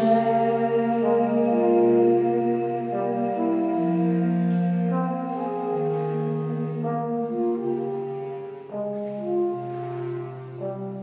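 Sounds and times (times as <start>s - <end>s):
wind and brass chords: 0.0s - 11.0s.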